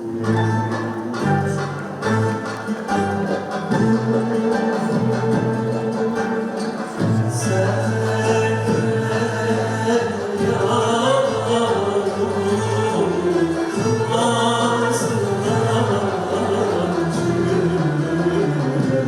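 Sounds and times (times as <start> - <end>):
choir singing: 0.0 - 19.0
instrumental accompaniment: 0.0 - 19.0.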